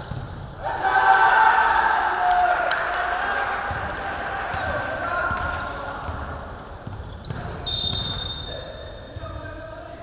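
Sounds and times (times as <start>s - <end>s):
players' voices: 0.6s - 10.0s.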